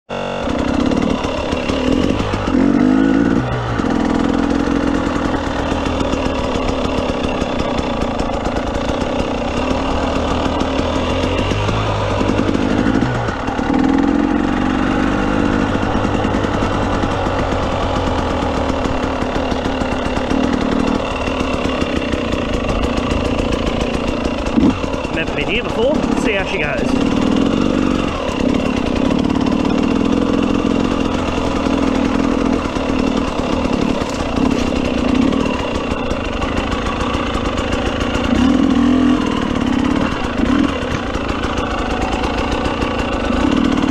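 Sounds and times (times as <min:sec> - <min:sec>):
dirt bike engine revving: 0:00.1 - 0:43.9.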